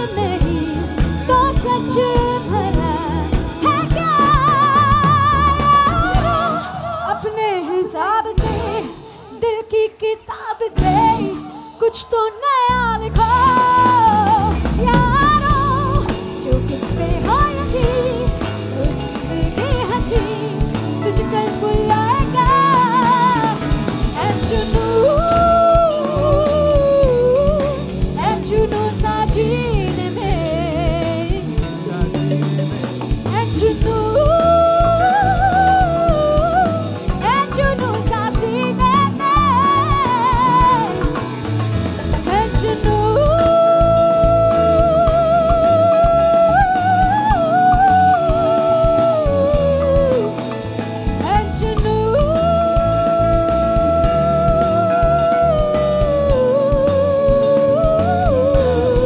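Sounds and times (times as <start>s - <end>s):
woman singing into microphone: 0.0s - 32.2s, 33.1s - 59.0s
live rock band: 0.0s - 59.0s.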